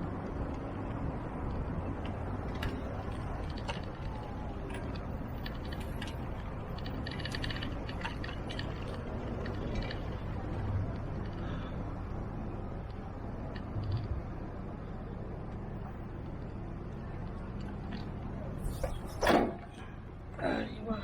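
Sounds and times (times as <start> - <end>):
wind and traffic rumble: 0.0 - 21.0.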